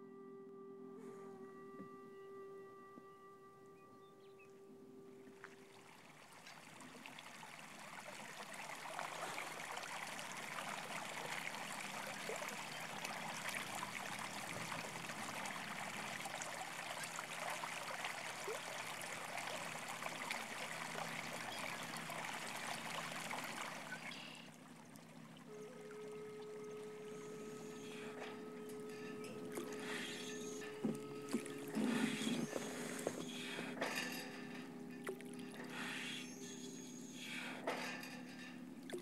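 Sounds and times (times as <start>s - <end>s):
stream trickling: 1.4s - 39.0s.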